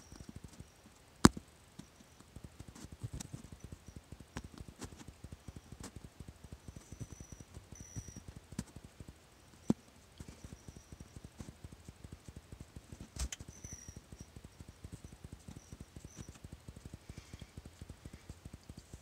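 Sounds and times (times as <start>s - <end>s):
rapid low pattering: 0.0s - 19.0s.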